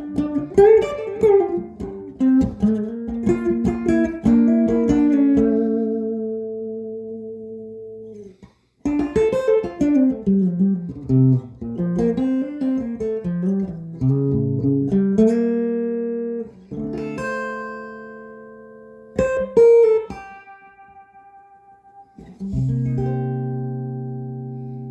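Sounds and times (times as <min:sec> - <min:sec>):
electric guitar chords and notes: 0:00.0 - 0:24.9.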